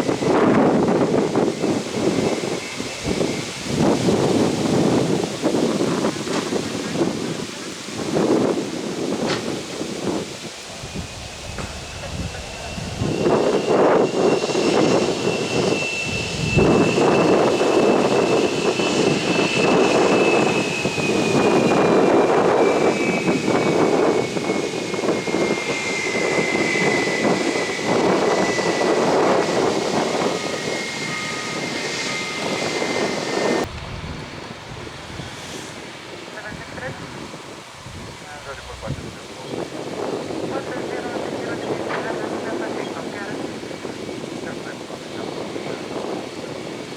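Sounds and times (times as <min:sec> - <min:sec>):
jet engine roar and whine: 0:00.0 - 0:46.9.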